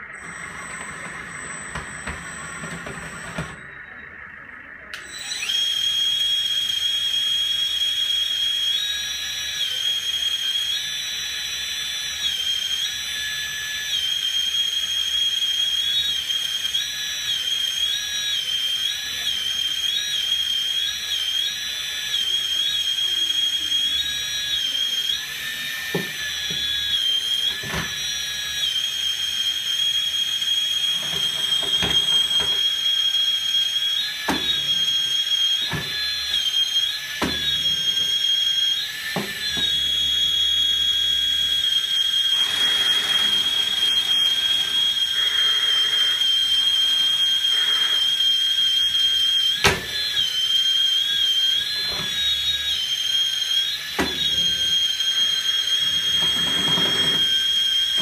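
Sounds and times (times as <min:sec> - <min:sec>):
hydraulic pump whining: 0:00.0 - 0:58.0.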